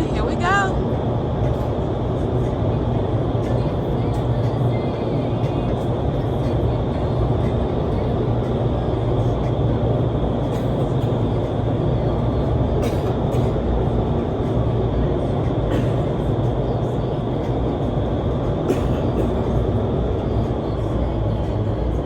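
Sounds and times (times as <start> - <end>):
roar of wind tunnel airflow: 0.0 - 22.0.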